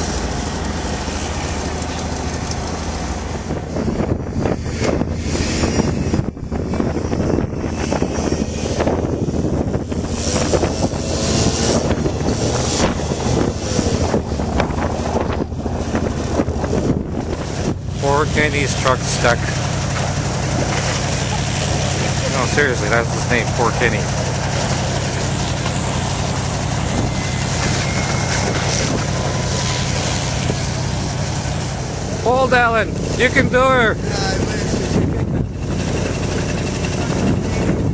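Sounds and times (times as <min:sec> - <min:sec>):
vehicle engine running: 0:00.0 - 0:37.9
wind noise on microphone: 0:00.0 - 0:37.9.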